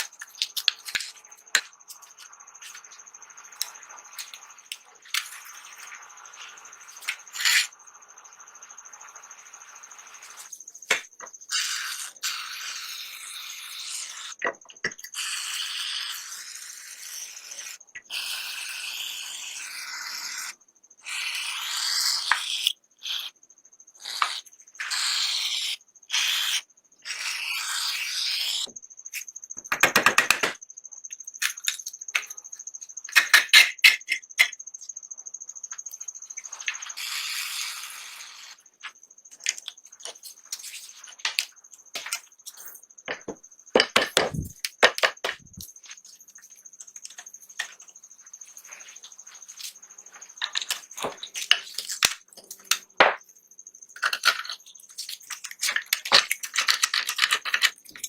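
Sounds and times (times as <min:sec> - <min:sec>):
faint steady high whine: 0:00.0 - 0:13.6, 0:22.2 - 0:58.0.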